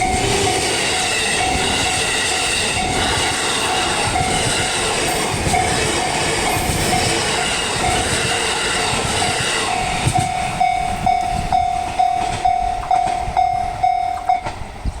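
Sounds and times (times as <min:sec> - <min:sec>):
level crossing warning bell: 0:00.0 - 0:14.8
train wheels rushing on rails: 0:00.0 - 0:15.0.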